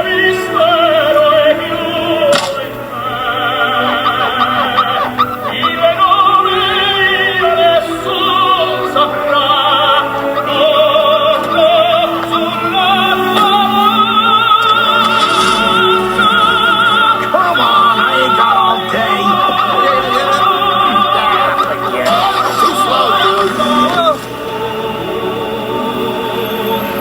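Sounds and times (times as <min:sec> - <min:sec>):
classical orchestral music: 0:00.0 - 0:27.0
operatic singing: 0:00.0 - 0:27.0.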